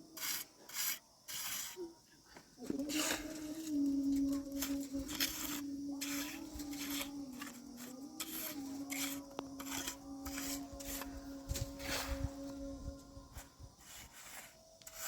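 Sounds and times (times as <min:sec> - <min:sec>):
steady humming tone: 0:00.0 - 0:15.0
rhythmic rasping strokes: 0:02.6 - 0:15.0.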